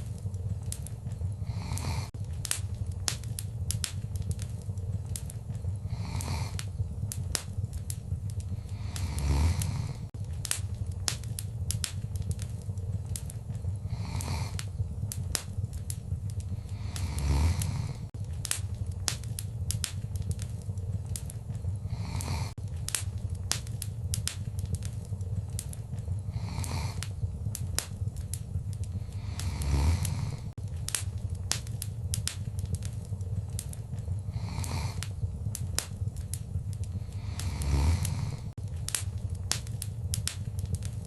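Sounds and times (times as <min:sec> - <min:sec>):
low rumble of flames: 0:00.0 - 0:41.0
soft whoosh of fire: 0:00.0 - 0:41.0
wood fire crackling: 0:00.0 - 0:41.0.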